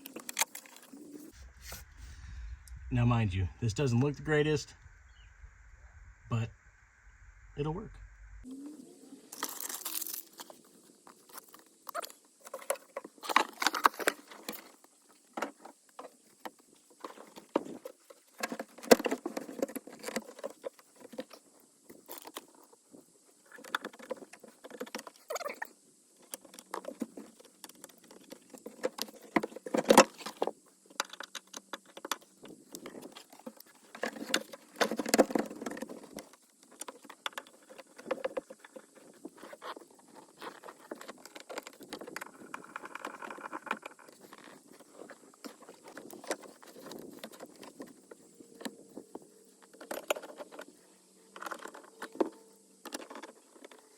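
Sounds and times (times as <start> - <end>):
rustling and scraping: 0.0 - 3.0, 9.3 - 25.4, 26.2 - 53.9.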